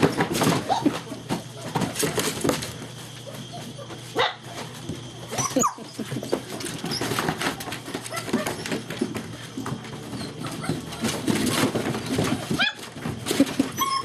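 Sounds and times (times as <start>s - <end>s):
puppies yipping and barking: 0.0s - 14.0s
scuffling and clicking: 0.0s - 14.0s.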